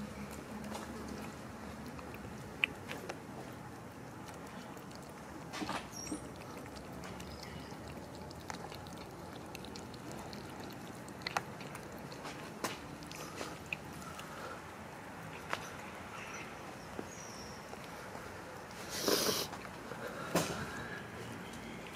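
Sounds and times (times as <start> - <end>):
cats chewing food: 0.0 - 21.9.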